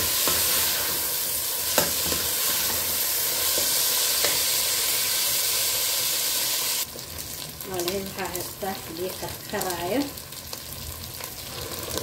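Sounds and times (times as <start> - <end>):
rice sizzling in a pot: 0.0 - 12.0.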